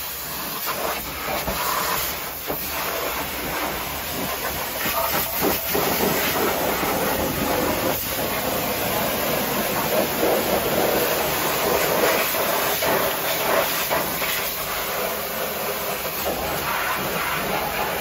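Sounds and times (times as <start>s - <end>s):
pressure washer spraying metal: 0.0s - 18.0s.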